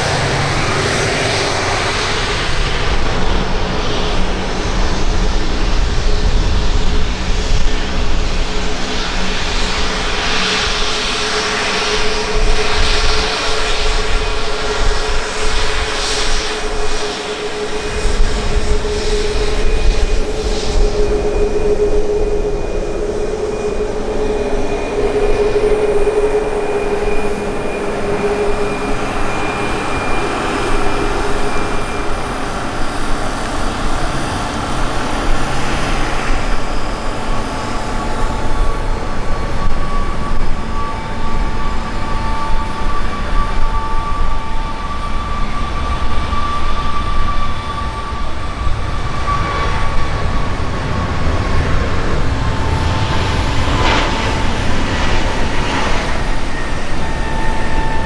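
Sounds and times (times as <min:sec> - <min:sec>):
held whining tones: 0:00.0 - 0:58.0.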